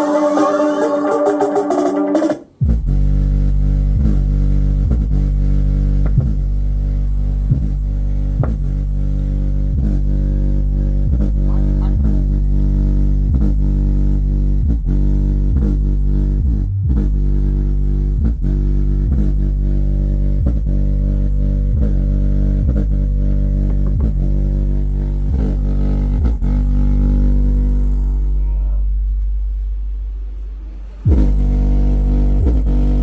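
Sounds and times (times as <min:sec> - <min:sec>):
bass-heavy music from speaker: 0:00.0 - 0:33.0.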